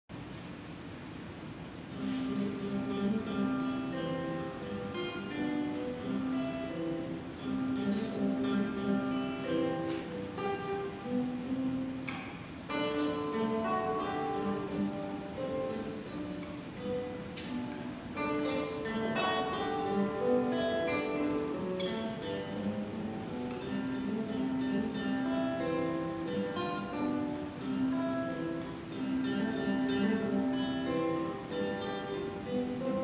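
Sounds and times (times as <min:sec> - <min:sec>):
fingerstyle classical guitar: 0:01.2 - 0:33.0
strummed guitar chords: 0:01.9 - 0:33.0.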